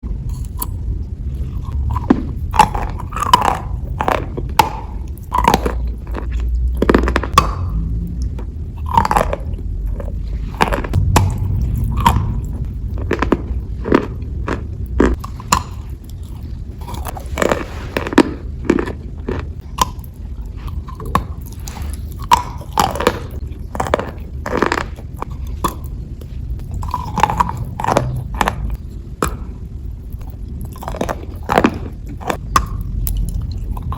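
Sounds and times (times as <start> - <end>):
chewing chalk crunches: 0.2 - 33.9.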